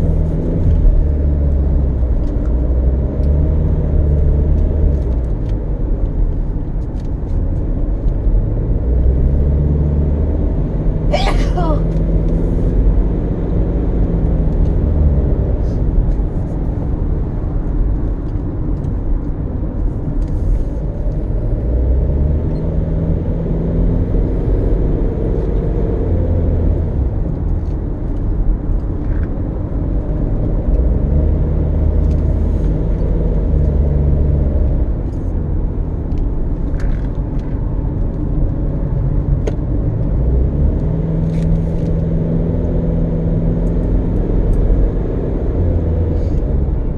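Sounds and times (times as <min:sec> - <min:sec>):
car engine: 0:00.0 - 0:46.9
road noise: 0:00.0 - 0:46.9.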